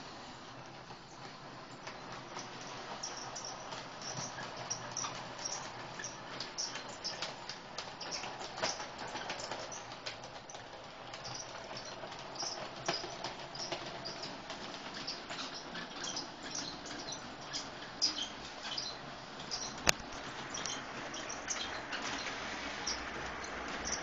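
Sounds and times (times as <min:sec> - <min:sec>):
model train running noise: 0:00.0 - 0:24.0
model train wheels clicking and rattling: 0:00.0 - 0:24.0.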